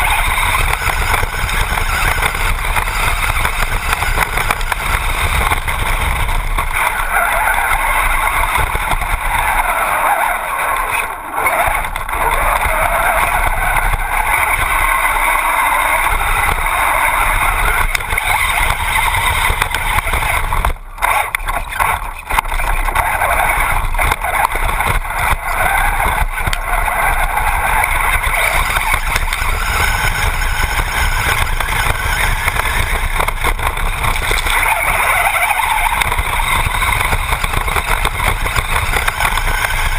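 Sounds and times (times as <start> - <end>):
rc car motor whining: 0.0 - 39.9.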